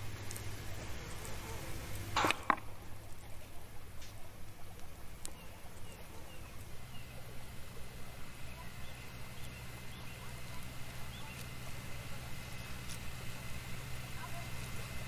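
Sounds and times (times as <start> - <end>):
steady low hum: 0.0 - 15.0
faint high chirps: 2.7 - 15.0.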